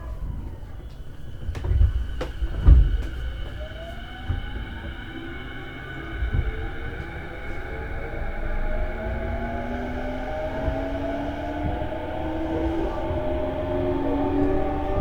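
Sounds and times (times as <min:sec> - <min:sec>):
low thumps through carriage: 0:00.0 - 0:15.0
electric train motor whine: 0:00.1 - 0:15.0.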